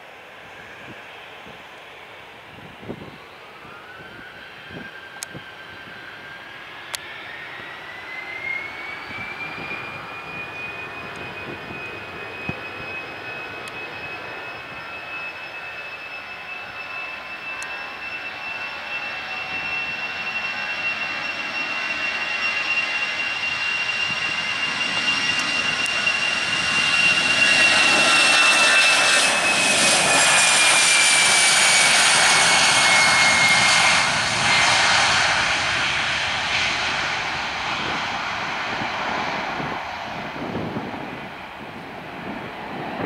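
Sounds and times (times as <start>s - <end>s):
jet engines at takeoff: 0.0s - 43.0s.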